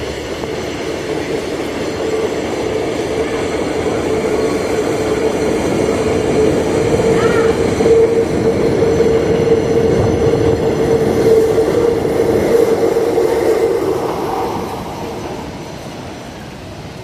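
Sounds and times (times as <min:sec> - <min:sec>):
steady whine: 0:00.0 - 0:17.0
subway train rumbling past: 0:00.0 - 0:17.0.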